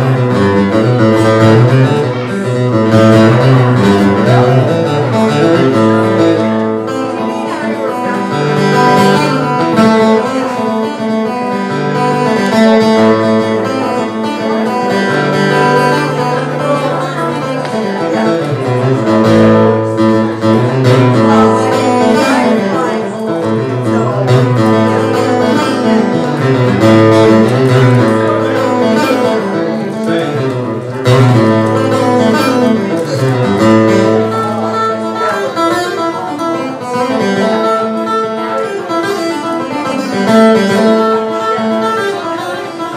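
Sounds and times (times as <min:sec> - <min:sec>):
acoustic guitar chords: 0:00.0 - 0:42.9.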